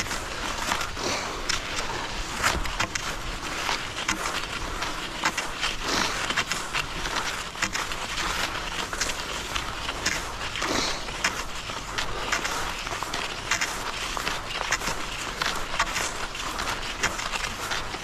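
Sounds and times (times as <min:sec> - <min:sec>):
skis scraping on snow: 0:00.0 - 0:18.0.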